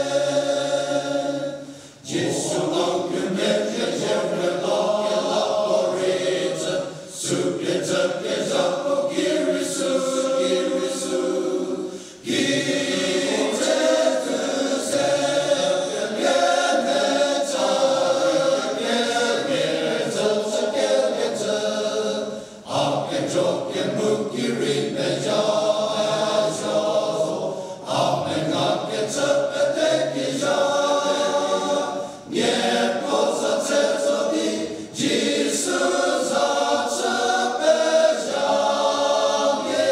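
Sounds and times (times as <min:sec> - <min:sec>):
male choir singing: 0:00.0 - 0:39.9.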